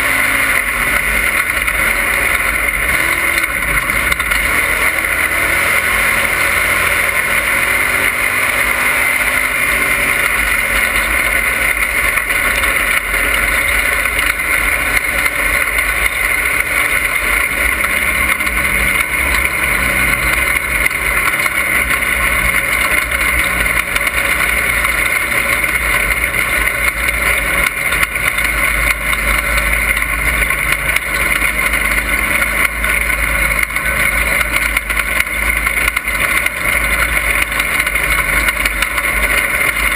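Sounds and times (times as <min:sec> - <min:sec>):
race car engine running hard: 0:00.0 - 0:39.9
track noise: 0:00.0 - 0:39.9.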